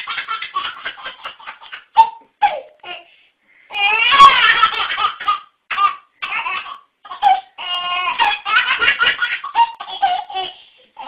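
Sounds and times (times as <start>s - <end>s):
baby laughing: 0.0s - 3.1s, 3.8s - 11.0s.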